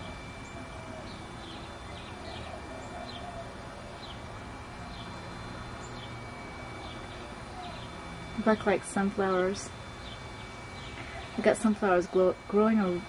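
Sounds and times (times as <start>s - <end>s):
bird chirping: 0.0s - 11.4s
outdoor background noise: 0.0s - 13.0s.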